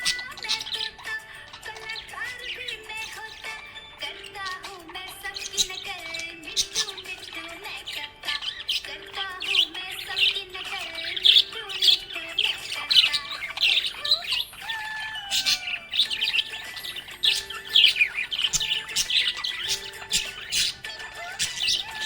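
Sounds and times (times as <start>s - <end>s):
budgerigar chirping: 0.0s - 22.0s.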